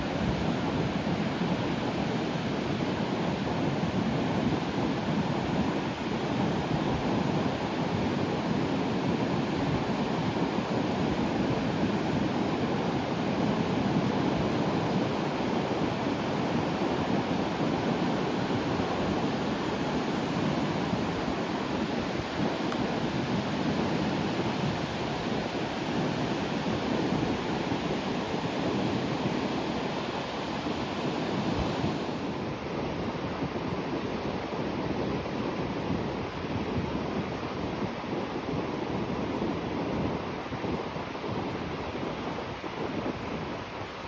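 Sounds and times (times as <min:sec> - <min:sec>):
sea surf washing along shore: 0:00.0 - 0:44.0
wind on microphone: 0:00.0 - 0:44.0.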